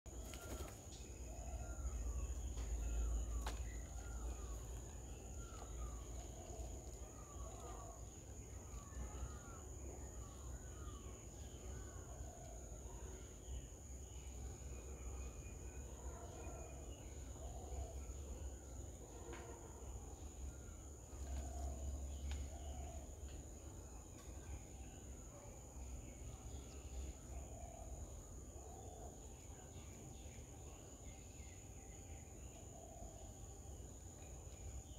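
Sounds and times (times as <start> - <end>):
faint bird chirps: 0.1 - 34.9.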